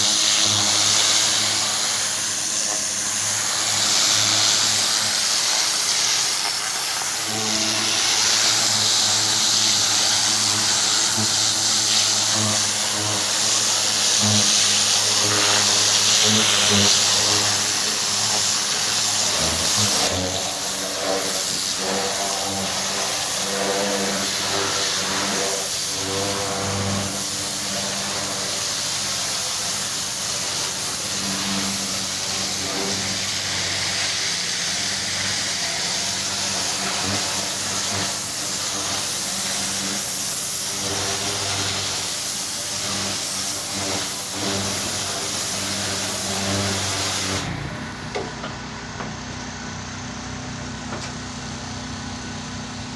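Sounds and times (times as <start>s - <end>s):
high-pressure water spray hiss: 0.0s - 47.6s
pressure washer engine: 0.0s - 52.9s.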